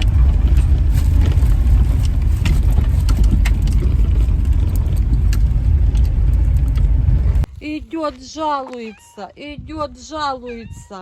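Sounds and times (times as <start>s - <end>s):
car engine and road noise: 0.0s - 8.8s.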